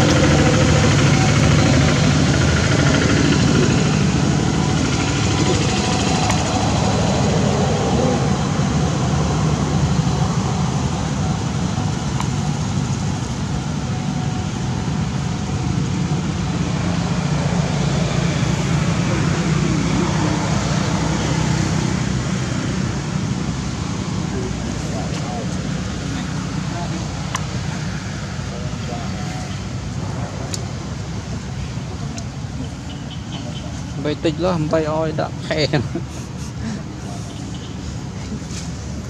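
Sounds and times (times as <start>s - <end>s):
low engine rumble with hiss: 0.0s - 39.0s.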